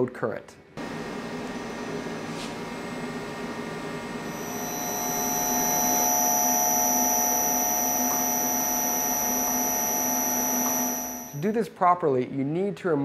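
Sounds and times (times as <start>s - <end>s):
electric motor whine and hum: 0.8s - 11.4s.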